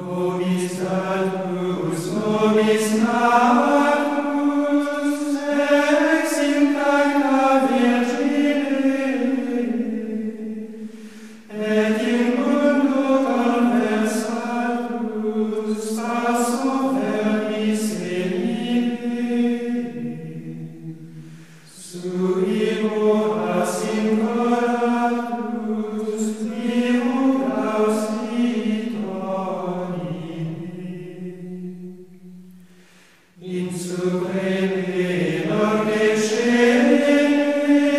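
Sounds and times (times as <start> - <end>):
slow choral chant: 0.0 - 37.9.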